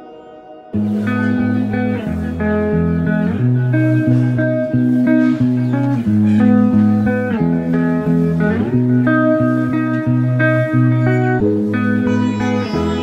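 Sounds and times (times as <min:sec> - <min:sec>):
plucked guitar instrumental: 0:00.7 - 0:13.0
low bass line: 0:00.8 - 0:13.0.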